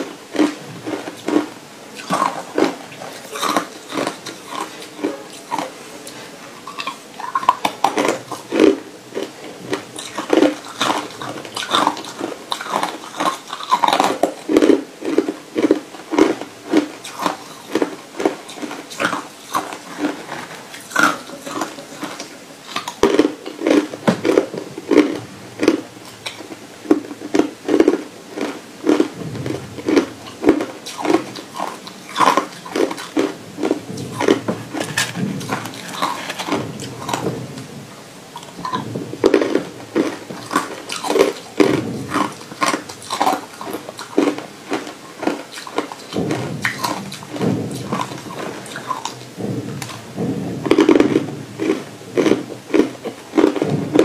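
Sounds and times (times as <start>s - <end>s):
ice being chewed: 0.0s - 37.7s, 38.4s - 54.0s.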